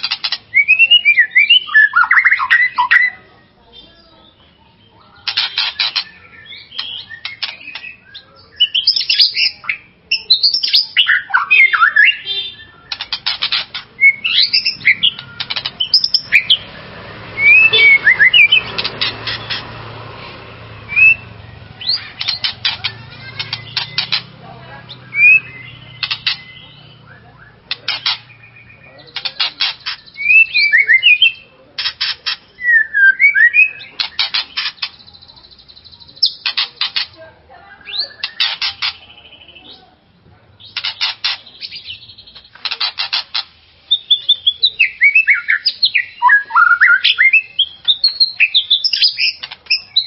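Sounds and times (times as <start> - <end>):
bird singing trills and whistles: 0.0 - 20.0, 20.8 - 39.9, 40.6 - 50.0.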